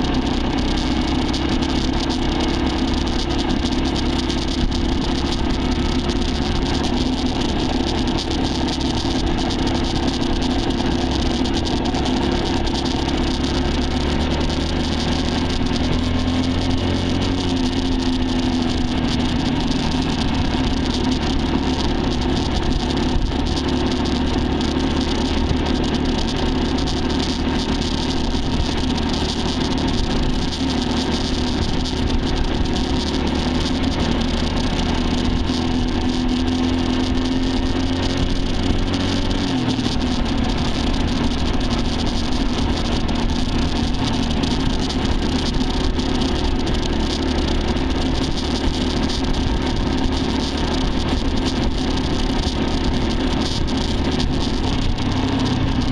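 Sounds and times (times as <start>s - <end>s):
dirt bike engine running: 0.0s - 55.9s.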